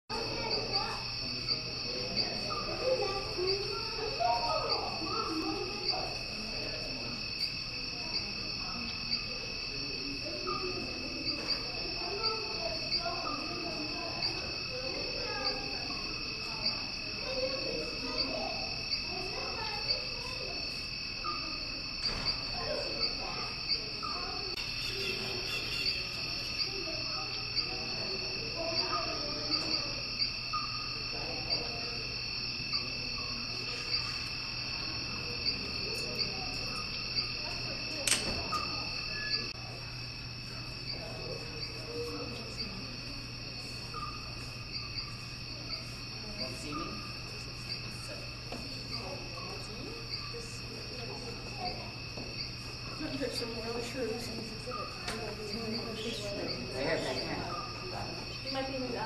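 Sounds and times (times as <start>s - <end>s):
crickets chirping: 0.1s - 59.0s
low background murmur: 0.1s - 59.0s.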